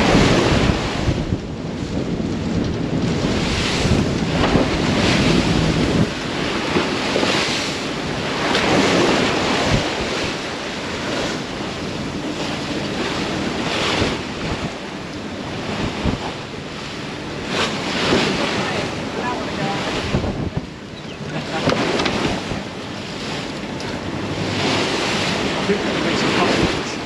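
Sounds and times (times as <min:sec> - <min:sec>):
waves rushing along hull: 0:00.0 - 0:27.0
wind buffeting microphone: 0:00.0 - 0:27.0.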